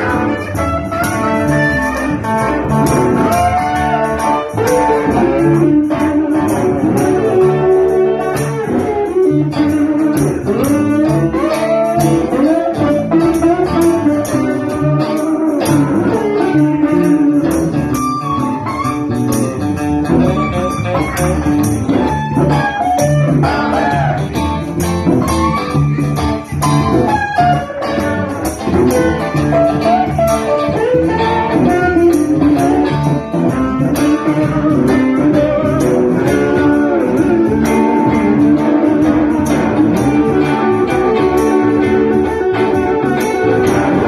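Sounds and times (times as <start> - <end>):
bass guitar: 0.0 - 44.0
lead guitar solo: 0.0 - 44.0
percussion steady beat: 0.0 - 44.0
rhythm guitar: 0.0 - 44.0.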